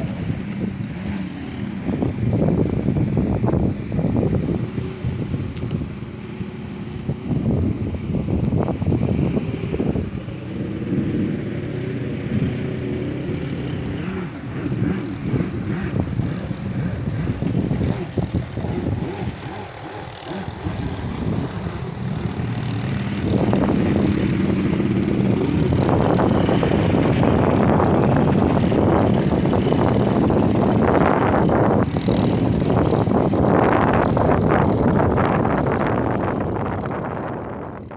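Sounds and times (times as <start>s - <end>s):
wind gusting on microphone: 0.0s - 37.9s.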